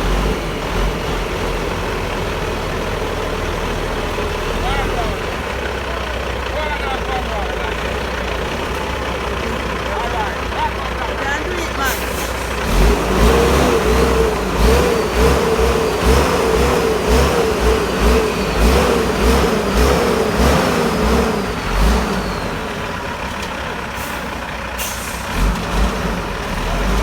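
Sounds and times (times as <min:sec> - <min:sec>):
heavy vehicle engine under load: 0:00.0 - 0:27.0.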